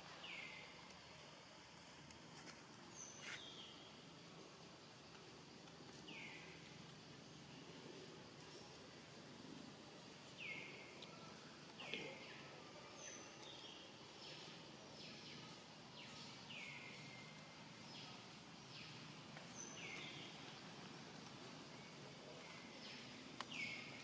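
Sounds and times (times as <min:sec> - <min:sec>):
quiet forest ambience: 0:00.0 - 0:24.0.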